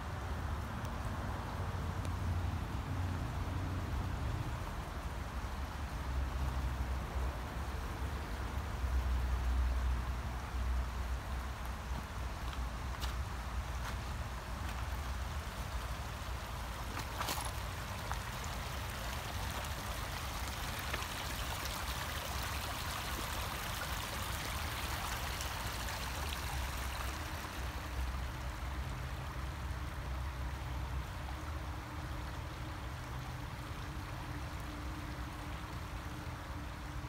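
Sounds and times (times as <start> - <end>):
rush of running water: 0.0 - 37.0.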